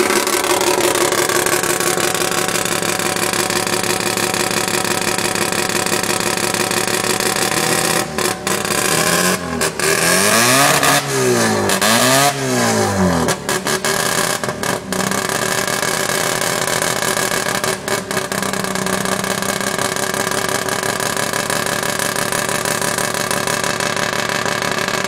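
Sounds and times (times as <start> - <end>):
rotary engine idling: 0.0 - 10.2, 14.2 - 25.0.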